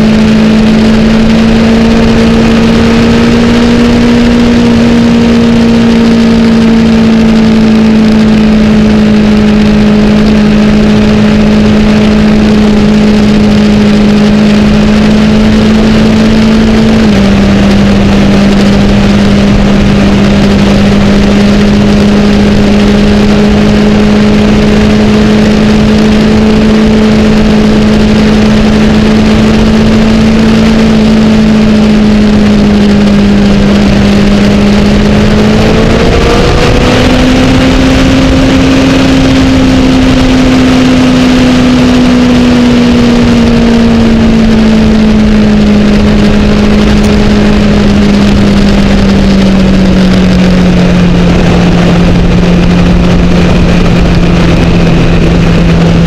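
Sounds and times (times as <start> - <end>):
motorcycle engine humming: 0.0 - 56.0
wind rushing over camera: 0.0 - 56.0.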